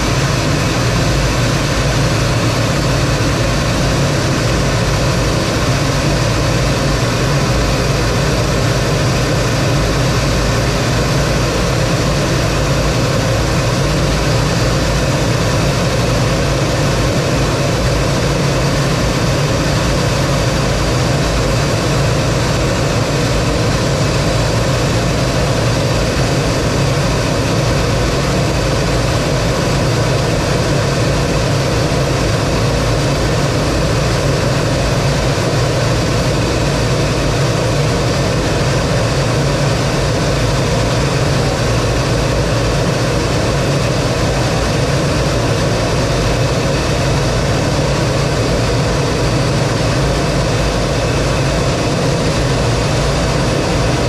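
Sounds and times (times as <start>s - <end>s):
jet engine running: 0.0s - 54.0s
rushing airflow: 0.0s - 54.0s.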